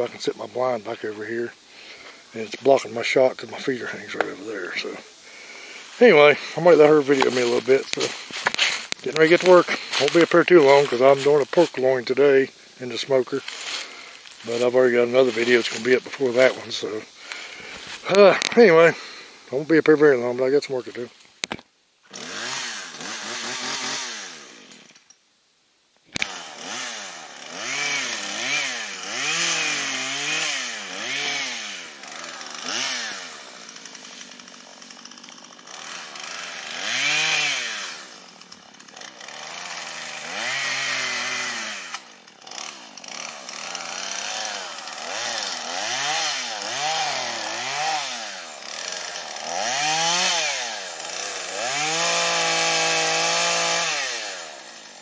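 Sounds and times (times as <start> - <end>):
chainsaw cutting wood: 0.0 - 19.3, 20.9 - 25.1, 26.1 - 55.0.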